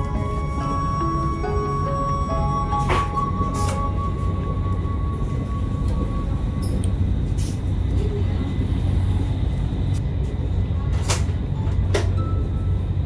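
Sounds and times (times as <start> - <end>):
train rumbling at speed: 0.0 - 13.0.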